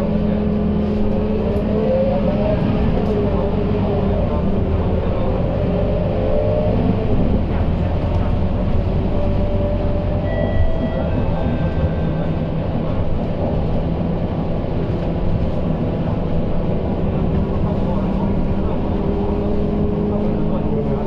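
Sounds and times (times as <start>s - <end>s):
bus engine rumble: 0.0s - 21.0s
road noise: 0.0s - 21.0s.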